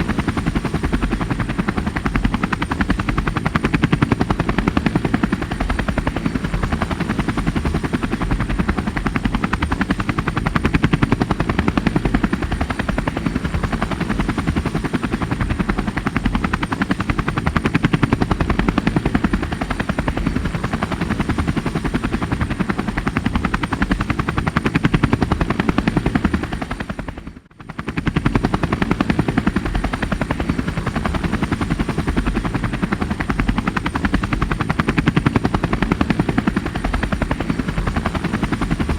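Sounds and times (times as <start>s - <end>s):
helicopter rotor chop: 0.0s - 38.9s.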